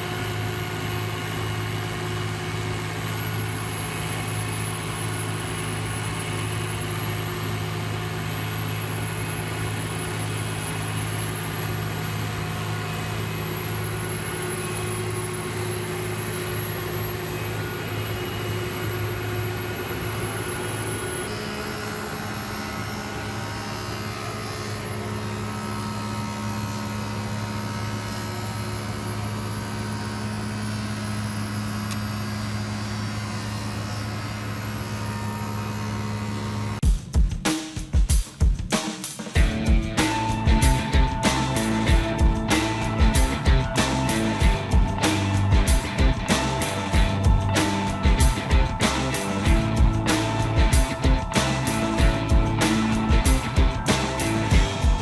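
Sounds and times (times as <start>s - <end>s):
heavy machinery engines droning: 0.0s - 36.8s, 39.4s - 55.0s.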